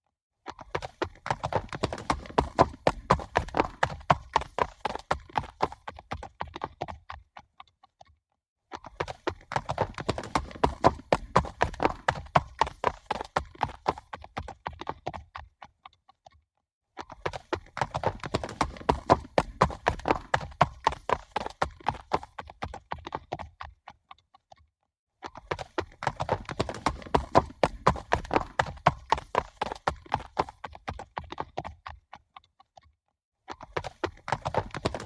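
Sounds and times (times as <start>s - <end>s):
horses galloping hoofbeats: 0.5s - 8.1s, 8.7s - 16.4s, 17.0s - 24.6s, 25.2s - 32.9s, 33.5s - 35.0s.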